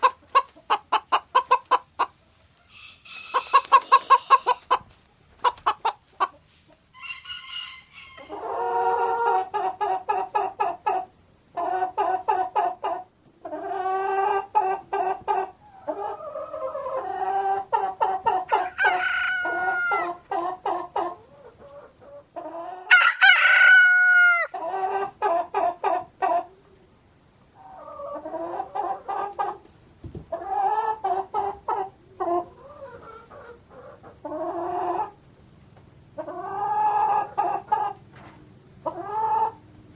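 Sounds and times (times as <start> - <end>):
chickens clucking and cackling: 0.0 - 39.9.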